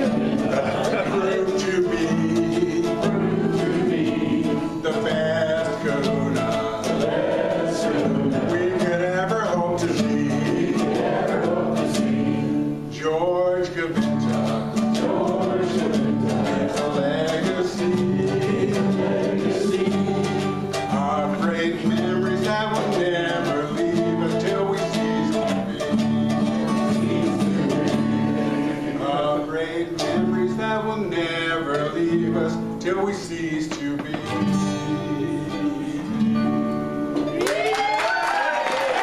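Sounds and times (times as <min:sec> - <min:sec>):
ukulele strumming: 0:00.0 - 0:37.9
acoustic guitar strumming: 0:00.0 - 0:38.0.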